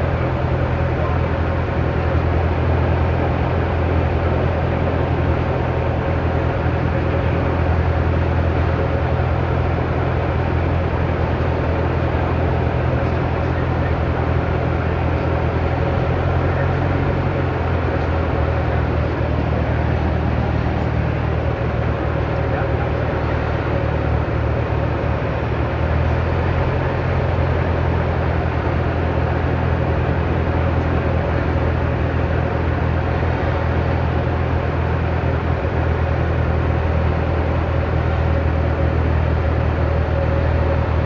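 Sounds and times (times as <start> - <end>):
airplane engine droning: 0.0 - 41.0.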